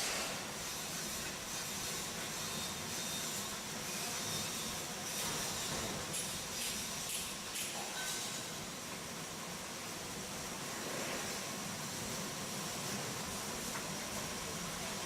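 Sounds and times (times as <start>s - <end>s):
arc welding crackling hiss: 0.0s - 15.0s.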